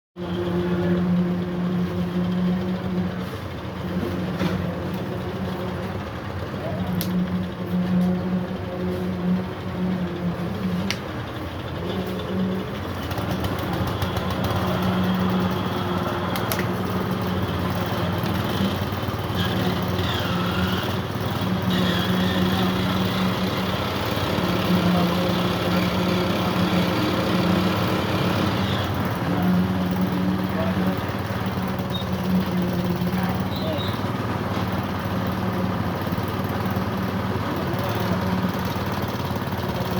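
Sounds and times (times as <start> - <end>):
engine humming: 0.2 - 39.9
outdoor machine noise: 0.2 - 39.9.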